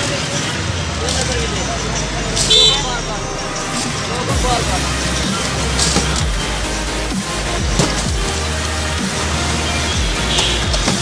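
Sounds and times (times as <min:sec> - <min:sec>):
electronic music with deep bass: 0:00.6 - 0:11.0.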